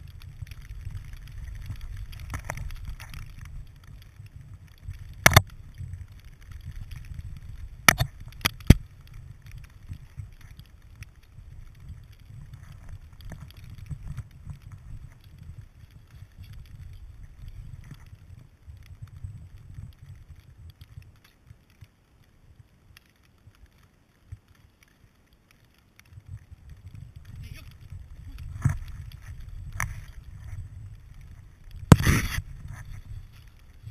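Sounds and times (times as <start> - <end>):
wind rumble: 0.0 - 33.9.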